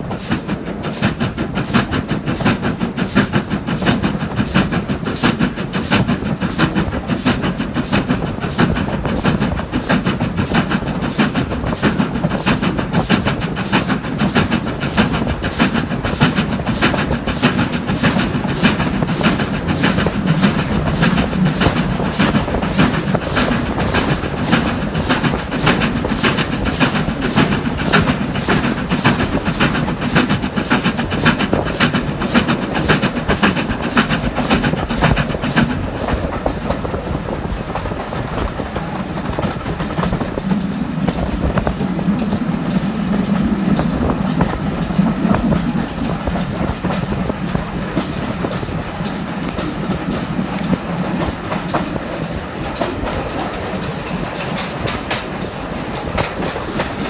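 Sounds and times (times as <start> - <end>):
steam locomotive rhythmic beats: 0.0 - 57.0
train wheels rumbling on track: 0.0 - 57.0.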